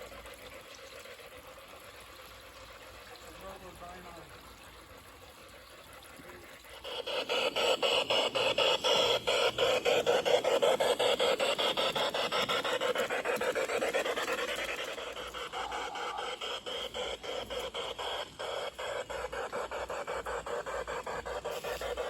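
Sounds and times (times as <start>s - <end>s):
model train motor whine: 0.0s - 22.0s
wheels clicking on track: 0.0s - 22.0s.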